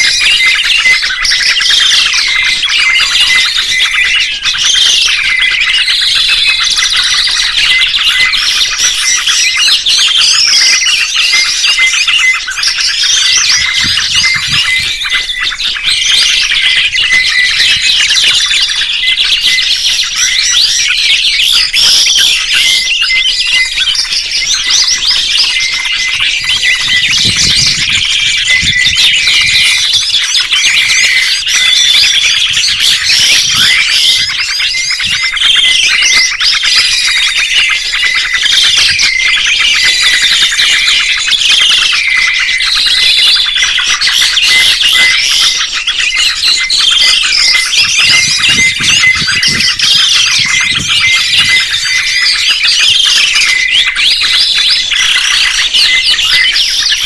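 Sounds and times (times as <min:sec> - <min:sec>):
songbirds chirping and whistling: 0:00.0 - 0:57.0.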